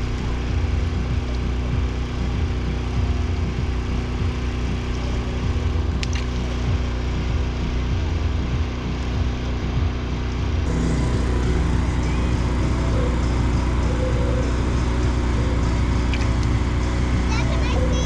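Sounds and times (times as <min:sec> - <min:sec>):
small engine humming: 0:00.0 - 0:18.0.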